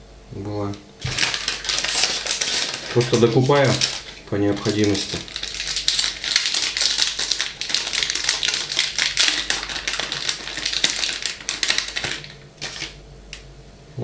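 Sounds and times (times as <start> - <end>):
plastic packet crinkling: 1.0 - 13.4.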